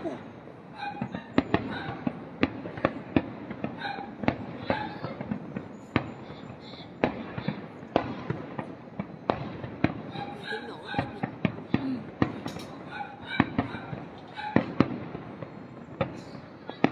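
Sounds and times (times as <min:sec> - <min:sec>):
fireworks bangs: 0:00.0 - 0:16.9.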